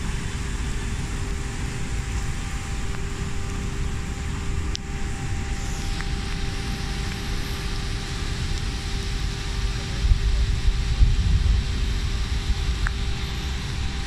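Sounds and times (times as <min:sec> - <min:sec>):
low rumble: 0:00.0 - 0:14.0
rain: 0:00.0 - 0:14.0.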